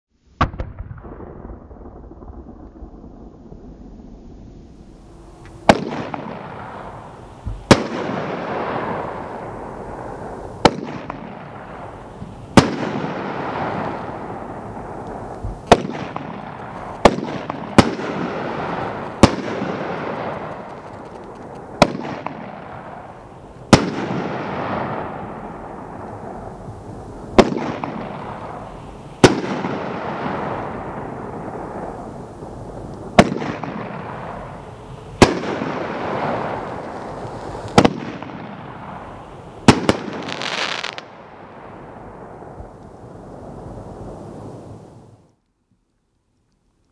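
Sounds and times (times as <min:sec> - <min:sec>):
fireworks bangs: 0:00.4 - 0:45.2
fireworks crackling: 0:00.4 - 0:45.4.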